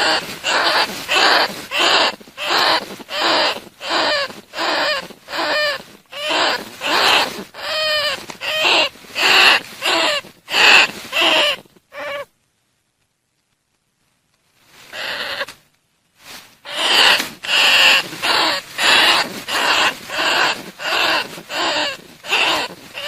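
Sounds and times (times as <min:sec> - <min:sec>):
bandicoot rats calling: 0:00.0 - 0:12.3, 0:14.9 - 0:15.5, 0:16.6 - 0:23.0.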